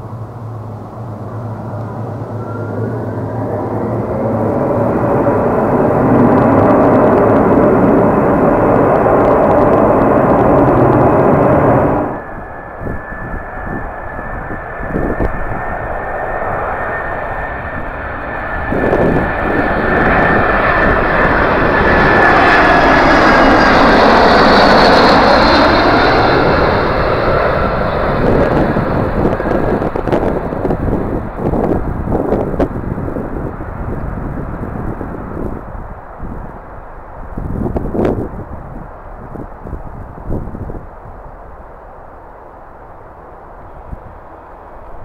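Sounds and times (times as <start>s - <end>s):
jet engines on runway: 0.0s - 45.0s
jet passing overhead roaring: 0.0s - 45.0s.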